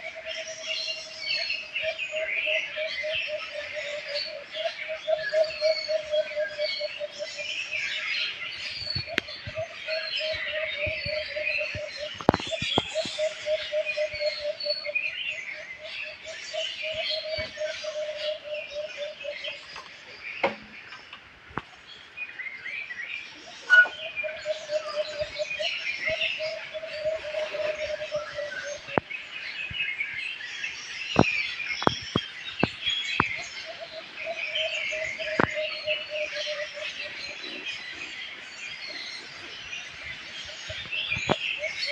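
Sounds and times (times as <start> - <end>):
small birds chirping and twittering: 0.0 - 41.9.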